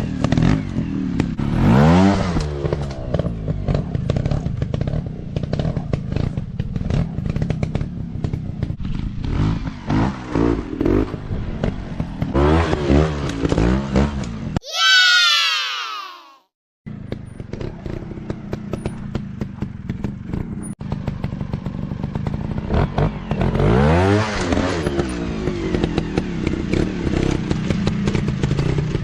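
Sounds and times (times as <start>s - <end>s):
motorcycle engines revving: 0.0s - 14.6s, 16.9s - 29.0s.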